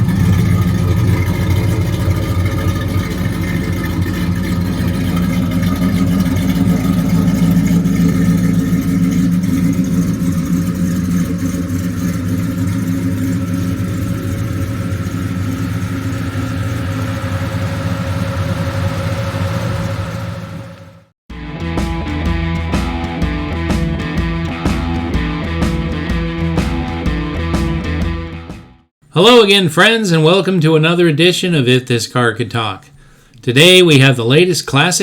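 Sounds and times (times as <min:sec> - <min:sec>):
pickup engine rumbling: 0:00.0 - 0:28.8.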